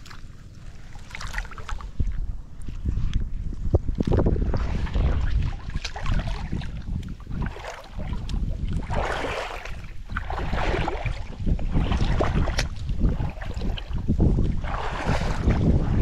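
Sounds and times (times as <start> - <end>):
water sloshing and splashing: 0.0 - 16.0
wind buffeting microphone: 0.0 - 16.0.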